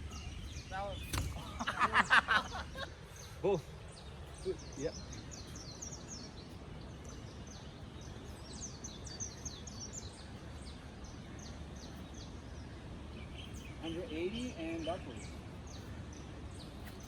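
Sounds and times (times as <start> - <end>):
low outdoor rumble: 0.0 - 17.0
small birds chirping: 0.0 - 17.0.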